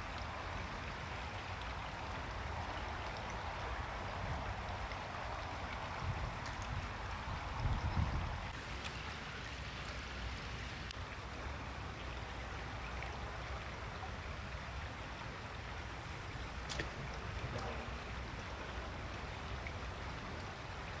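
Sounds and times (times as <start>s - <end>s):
brook water flowing: 0.0s - 21.0s.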